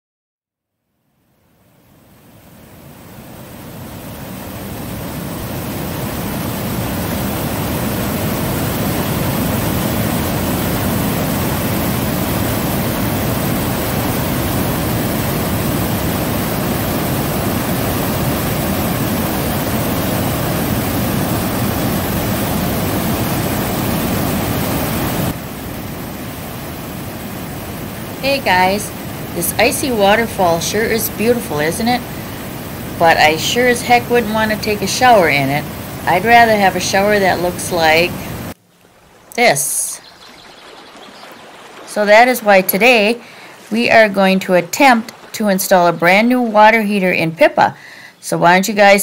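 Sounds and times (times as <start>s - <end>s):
water rushing over waterfall: 2.5s - 47.2s.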